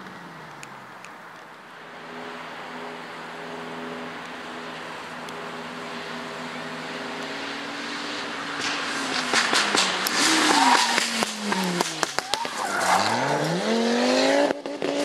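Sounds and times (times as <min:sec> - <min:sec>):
rally car engine approaching: 0:01.8 - 0:15.0.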